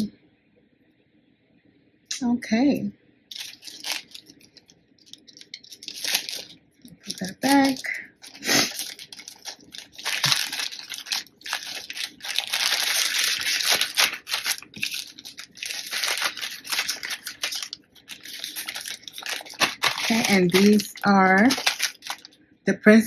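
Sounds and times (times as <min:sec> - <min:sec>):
plastic bags crinkling: 0:03.3 - 0:22.4.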